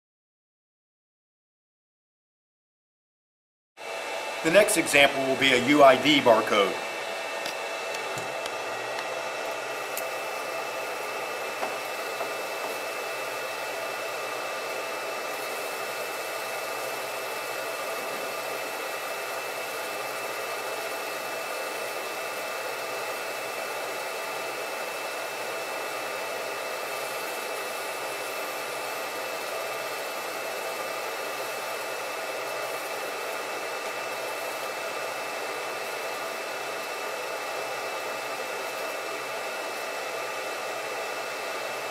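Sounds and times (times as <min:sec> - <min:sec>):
laser marker fan hiss: 0:04.4 - 0:41.9.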